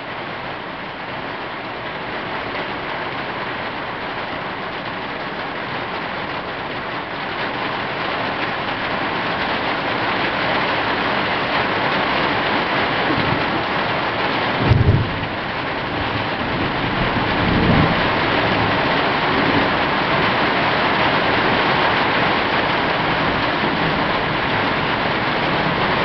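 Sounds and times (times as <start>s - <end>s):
rain on a tin roof: 0.0s - 26.0s.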